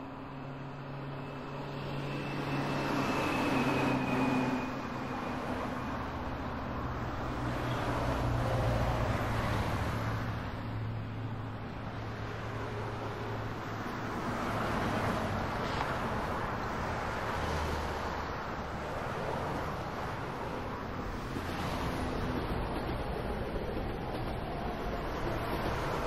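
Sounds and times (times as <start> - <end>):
tyre and road noise: 1.4 - 26.0.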